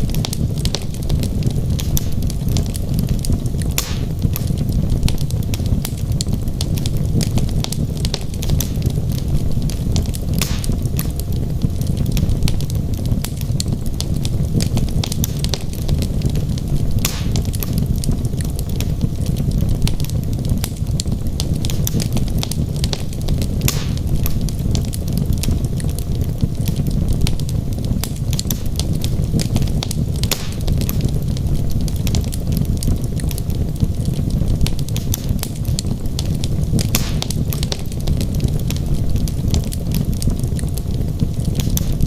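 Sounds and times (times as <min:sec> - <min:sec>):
fire crackling: 0:00.0 - 0:42.0
low rumble of flame: 0:00.0 - 0:42.0
logs popping: 0:00.1 - 0:42.0.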